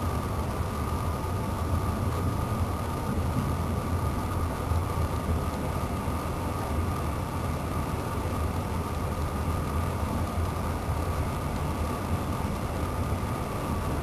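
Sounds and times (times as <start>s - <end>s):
faint steady tone: 0.0s - 14.0s
train wheels rumbling on rails: 0.0s - 14.0s.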